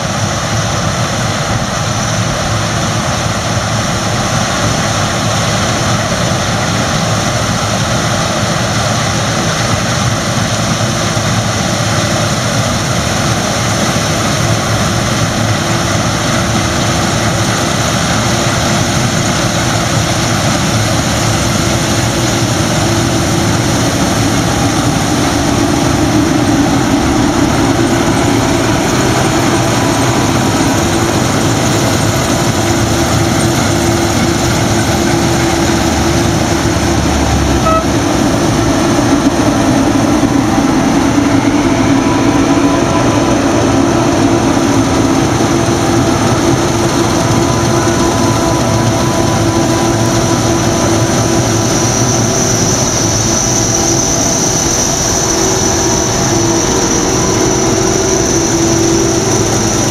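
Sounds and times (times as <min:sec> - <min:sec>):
combine harvesters droning: 0:00.0 - 0:59.9.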